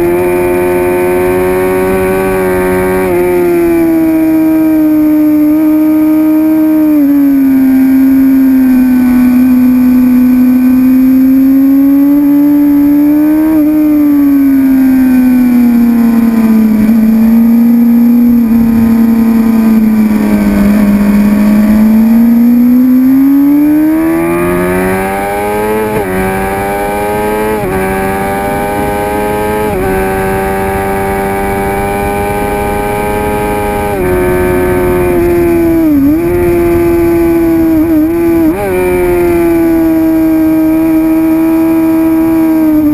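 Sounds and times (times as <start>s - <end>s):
motorcycle engine running hard: 0.0s - 42.9s.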